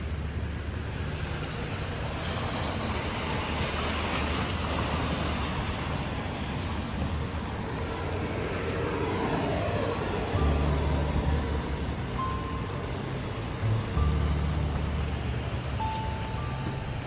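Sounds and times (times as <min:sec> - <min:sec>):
low rumble of city traffic: 0:00.0 - 0:17.0
tyre hiss on wet street: 0:00.0 - 0:17.0.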